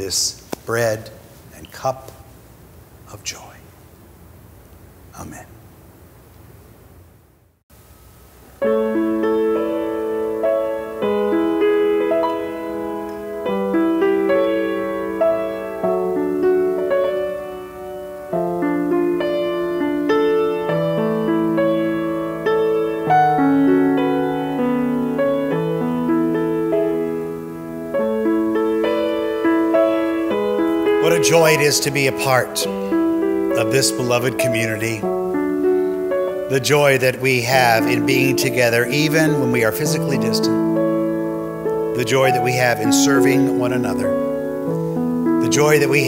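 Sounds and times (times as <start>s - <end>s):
gentle piano chords: 8.6s - 46.0s.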